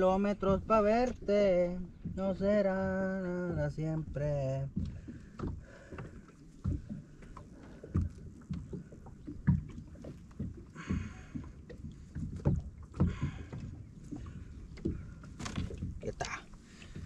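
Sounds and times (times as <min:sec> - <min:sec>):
splashes: 0:00.0 - 0:17.0
waves slapping against boat hull: 0:00.0 - 0:17.0.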